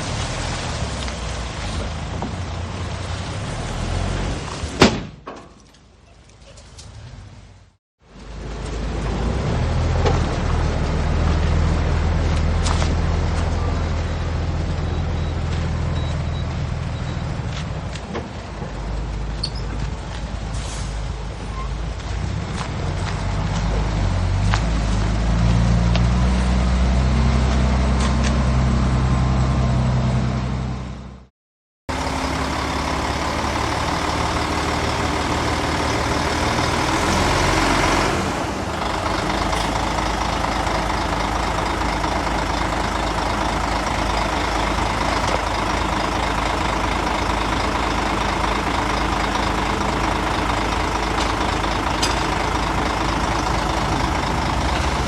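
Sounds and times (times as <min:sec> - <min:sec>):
heavy diesel engines running: 0:00.0 - 0:04.8, 0:07.2 - 0:31.3, 0:31.9 - 0:55.0.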